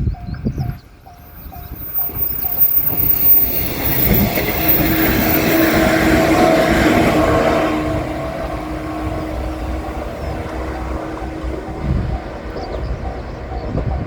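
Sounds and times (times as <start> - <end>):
crossing bell dinging: 0.0 - 14.0
electric train passing: 0.0 - 14.0
steady tone: 1.1 - 14.0.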